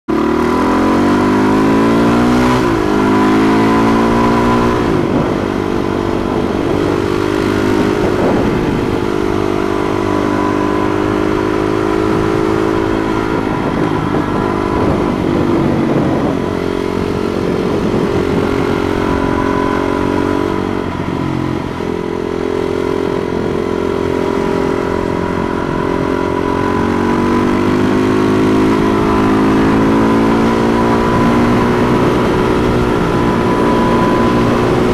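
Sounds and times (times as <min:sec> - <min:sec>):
motorcycle engine revving: 0:00.0 - 0:34.9
wind rush on microphone: 0:00.1 - 0:34.9
gear change: 0:00.2 - 0:34.9.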